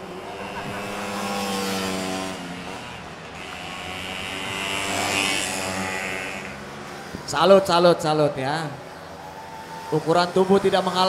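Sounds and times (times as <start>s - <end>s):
scooter engines racing past: 0.0s - 11.0s.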